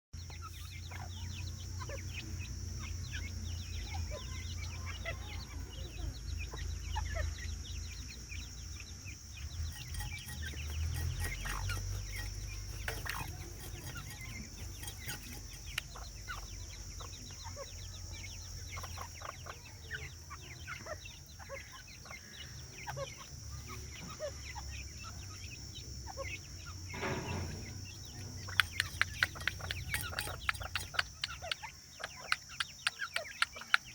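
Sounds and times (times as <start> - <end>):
steady low hum: 0.2 - 33.8
partridges clucking and chattering: 0.2 - 33.9.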